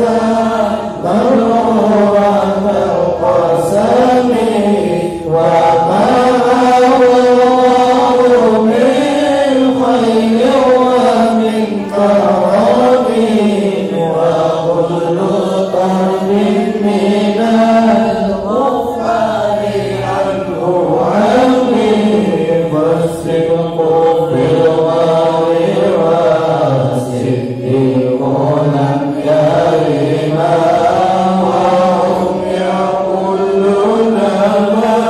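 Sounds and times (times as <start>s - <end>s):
congregation chanting: 0.0s - 35.0s.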